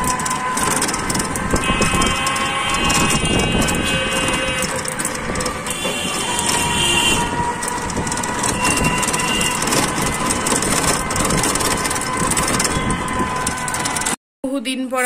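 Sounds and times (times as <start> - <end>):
rickshaw rumble and rattle: 0.0 - 14.2
surrounding traffic: 0.0 - 14.2
wind: 0.0 - 14.8.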